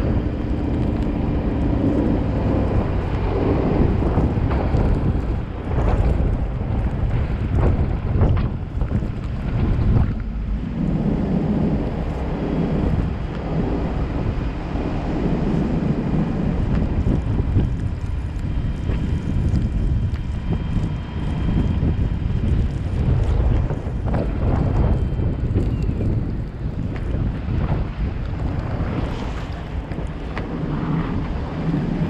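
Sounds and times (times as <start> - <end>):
vehicle driving low rumble: 0.0 - 32.0
wind buffeting microphone: 0.0 - 32.0.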